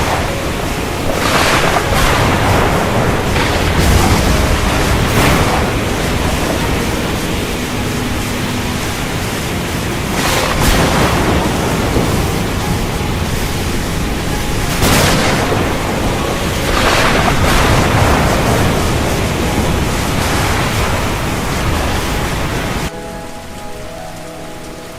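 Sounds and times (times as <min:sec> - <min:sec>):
heavy rain: 0:00.0 - 0:24.9.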